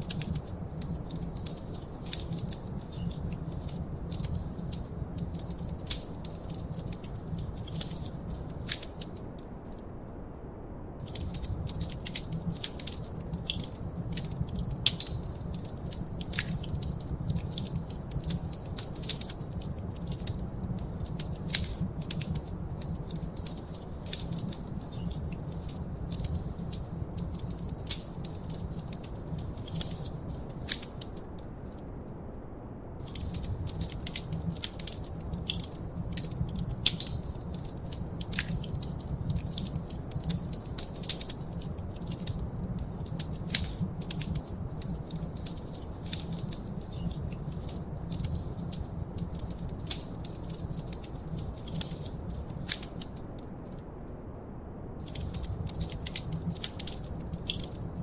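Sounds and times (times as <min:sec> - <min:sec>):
wood fire crackling: 0:00.0 - 0:09.9, 0:11.0 - 0:32.0, 0:33.0 - 0:54.3, 0:55.0 - 0:58.0.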